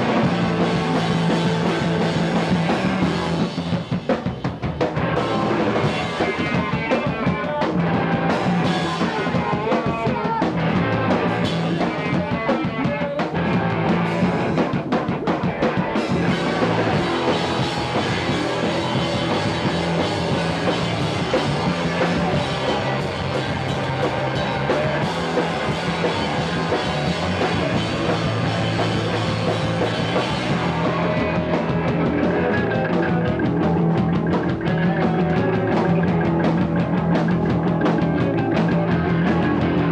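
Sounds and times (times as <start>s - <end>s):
punk rock music: 0.0s - 39.9s.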